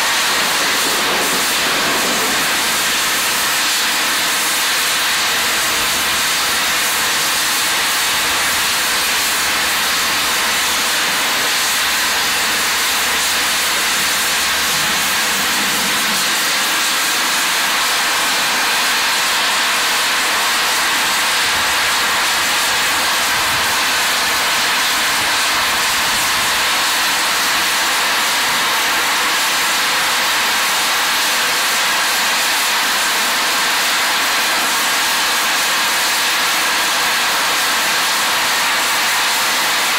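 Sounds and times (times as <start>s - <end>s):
steam hissing from safety valves: 0.0s - 39.9s.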